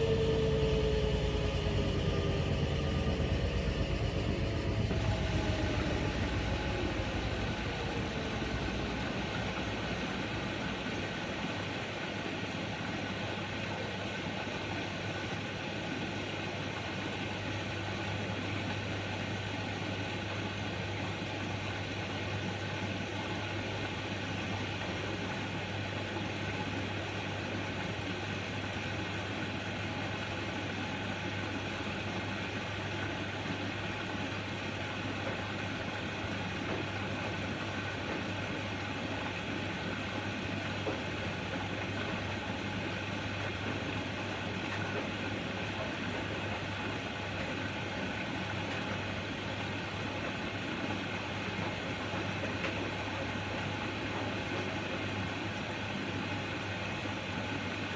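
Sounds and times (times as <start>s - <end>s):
washing machine humming: 0.0s - 57.9s.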